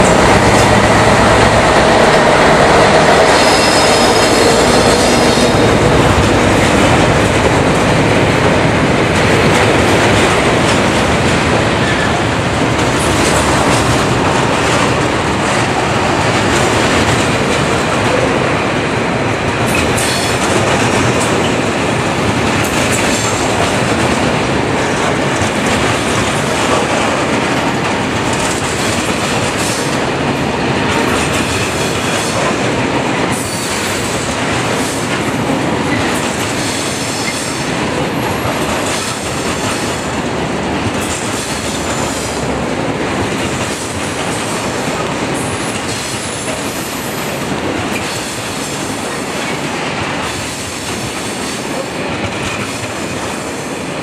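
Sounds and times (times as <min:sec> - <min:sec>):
train wheels clattering on track: 0:00.0 - 0:54.0.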